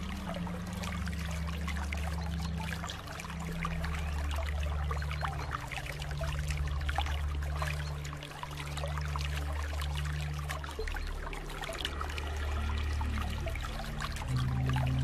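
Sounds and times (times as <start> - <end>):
low drone: 0.0 - 15.0.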